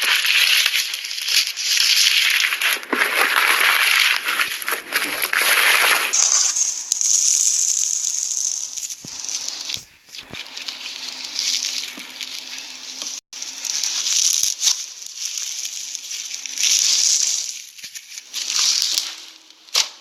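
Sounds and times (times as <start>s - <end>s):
slime crackling and popping: 0.0s - 20.0s.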